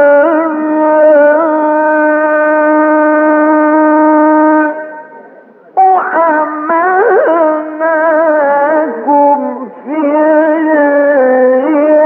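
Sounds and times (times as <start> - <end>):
man reciting in long note: 0.0 - 12.0.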